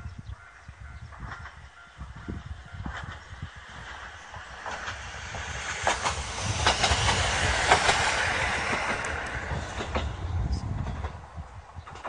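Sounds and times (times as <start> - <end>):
diesel railcar passing: 0.0 - 12.0
wheels clicking over rail joints: 1.1 - 12.0.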